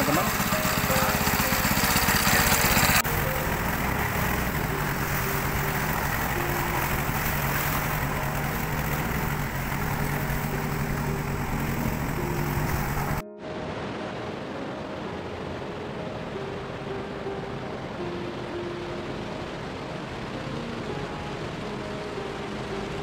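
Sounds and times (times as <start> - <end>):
fast river rushing: 0.0 - 23.0
small boat engine running: 0.0 - 23.0.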